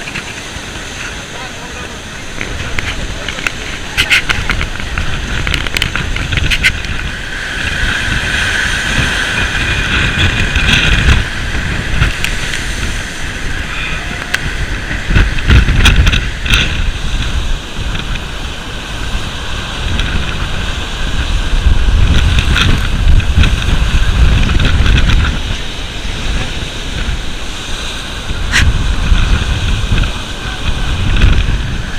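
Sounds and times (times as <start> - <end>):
waves surging and breaking: 0.0 - 31.9
wind buffeting microphone: 0.0 - 31.9.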